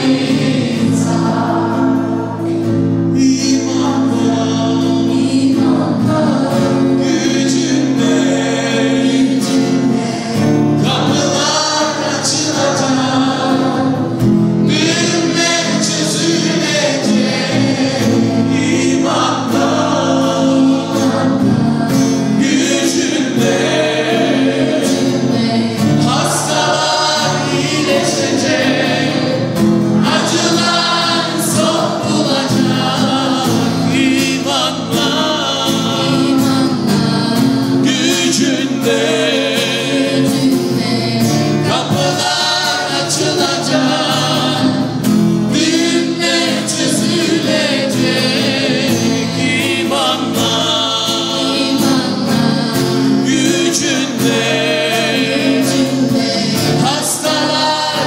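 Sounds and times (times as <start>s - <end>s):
group singing a worship song: 0.0s - 58.0s.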